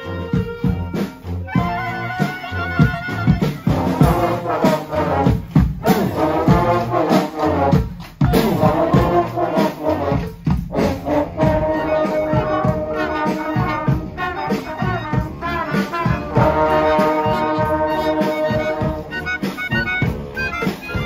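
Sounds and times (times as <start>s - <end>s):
brass band marching: 0.0s - 21.0s.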